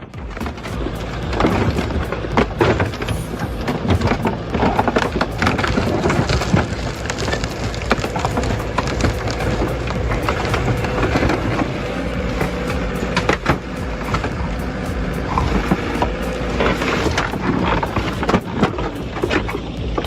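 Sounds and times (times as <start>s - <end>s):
low machine rumble: 0.0s - 20.0s
machine crunching a vehicle: 0.0s - 20.0s.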